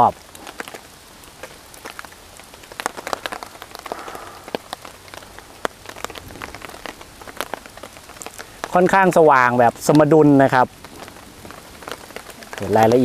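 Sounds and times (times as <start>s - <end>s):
rain on a tarp: 0.0s - 13.0s.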